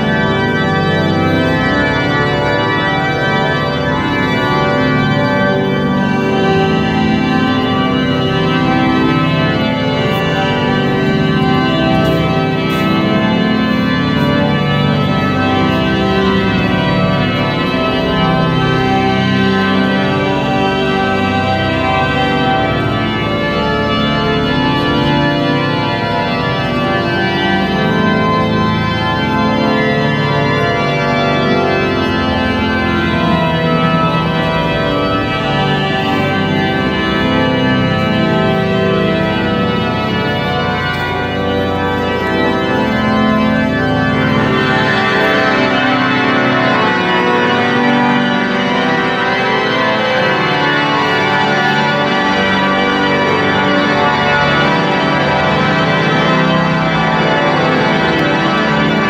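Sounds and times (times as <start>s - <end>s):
pipe organ playing full chords: 0.0s - 59.0s.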